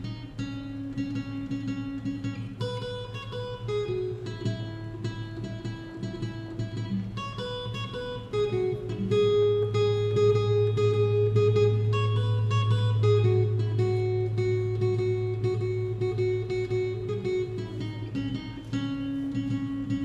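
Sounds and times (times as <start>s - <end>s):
acoustic guitar picking melody: 0.0s - 20.0s.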